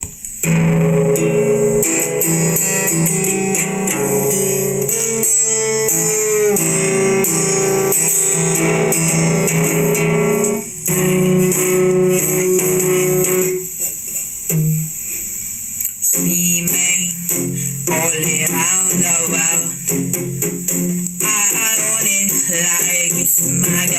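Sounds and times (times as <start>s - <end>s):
instrumental guitar music: 0.0s - 23.9s.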